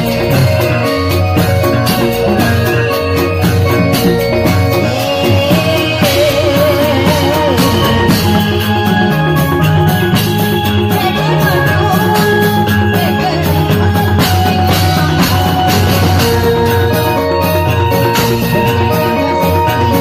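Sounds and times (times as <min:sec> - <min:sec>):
drums keeping a steady beat: 0:00.0 - 0:20.0
sustained melodic instrument notes: 0:00.0 - 0:20.0.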